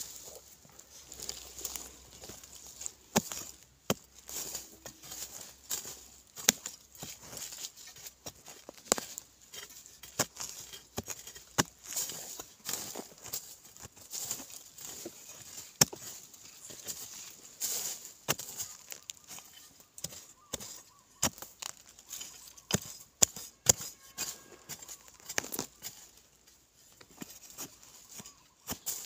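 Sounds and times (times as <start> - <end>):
loose earth crumbling: 0.0 - 29.0
metal blade chopping soil: 1.2 - 26.2, 27.0 - 29.0.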